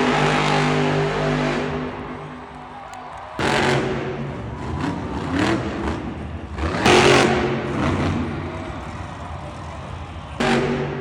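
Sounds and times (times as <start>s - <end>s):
truck engine revving: 0.0s - 2.7s, 3.3s - 11.0s.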